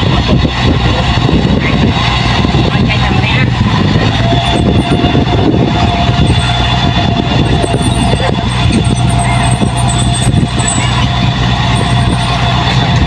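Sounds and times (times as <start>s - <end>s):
diesel engine under load: 0.0s - 13.0s
thin steady whine: 0.0s - 13.0s.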